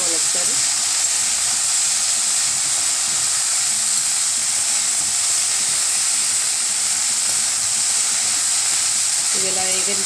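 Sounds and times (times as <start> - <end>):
okra sizzling in hot oil: 0.0 - 10.0.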